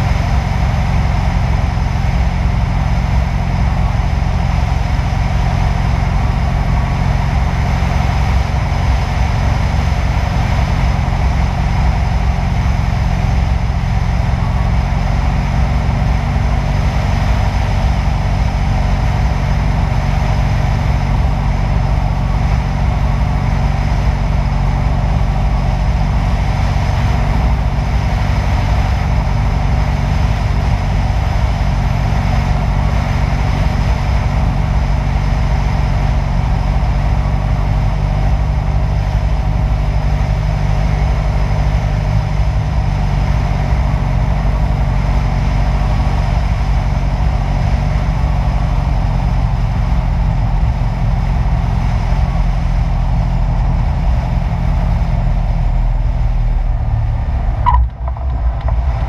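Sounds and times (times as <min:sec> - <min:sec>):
airplane propeller engine droning: 0:00.0 - 0:59.0.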